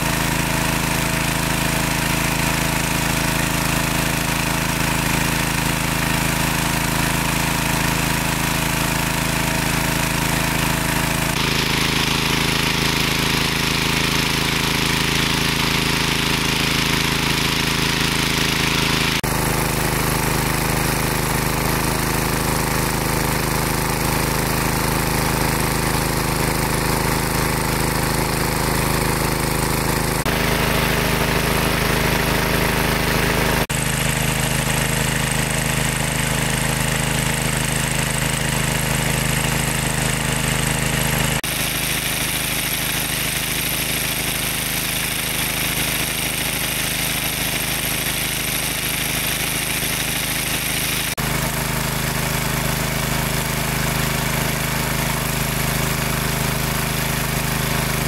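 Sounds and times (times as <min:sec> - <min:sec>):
small engine droning: 0:00.0 - 0:58.0.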